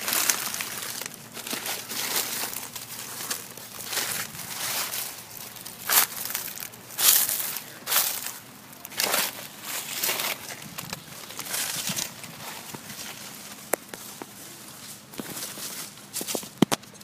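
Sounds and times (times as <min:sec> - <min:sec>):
dry crunching and rustling: 0:00.0 - 0:17.0.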